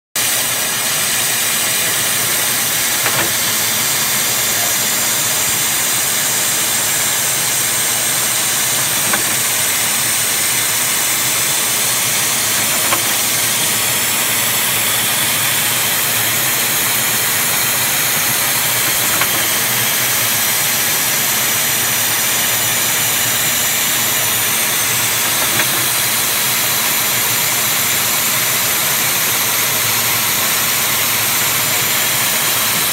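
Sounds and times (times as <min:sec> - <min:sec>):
machine mechanical hiss: 0:00.2 - 0:32.9.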